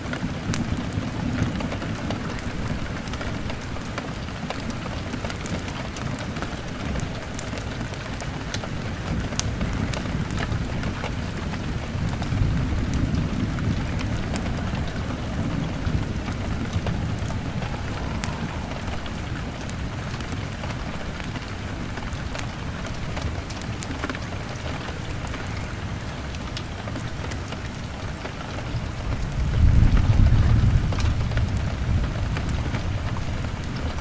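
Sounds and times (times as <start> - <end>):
low thunder rumble: 0.0 - 34.0
rain on a window: 0.0 - 34.0
wood fire crackling: 0.0 - 34.0.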